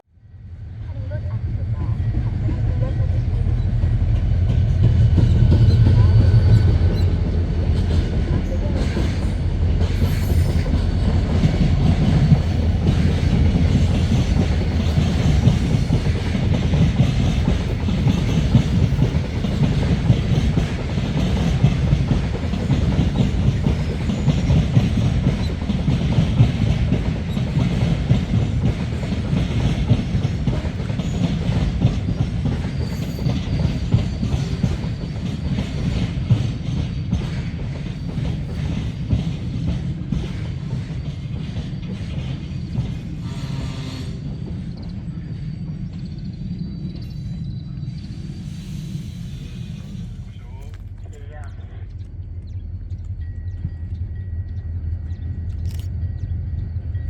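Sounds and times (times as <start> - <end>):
train rumbling by: 0.0 - 57.0.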